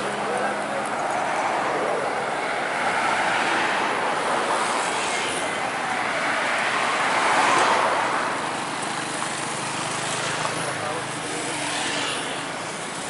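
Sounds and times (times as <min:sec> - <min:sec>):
bus passing: 0:00.0 - 0:13.0
motorcycles passing: 0:00.0 - 0:13.0.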